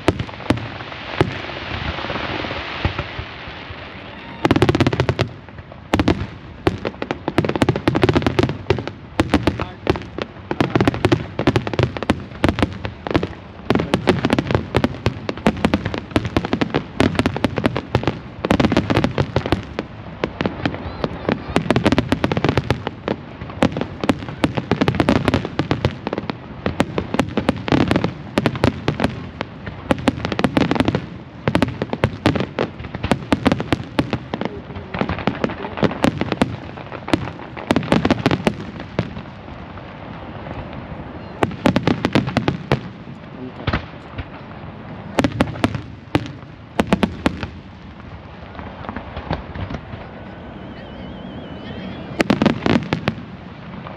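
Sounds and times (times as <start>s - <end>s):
deep fireworks booms: 0.0s - 53.9s
fireworks cracking and crackling: 0.0s - 53.9s.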